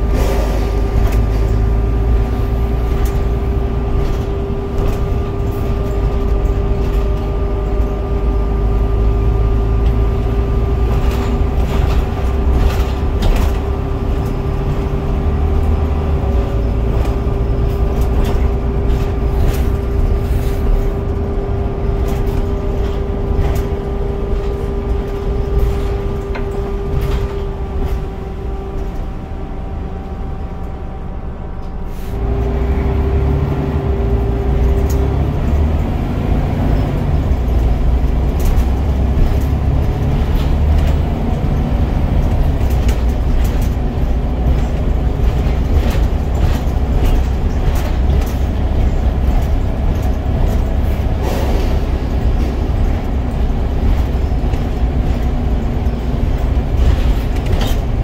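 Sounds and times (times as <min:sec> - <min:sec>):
bus diesel engine drone: 0:00.0 - 0:58.0
bodywork knocks and rattles: 0:00.8 - 0:29.1, 0:32.5 - 0:58.0.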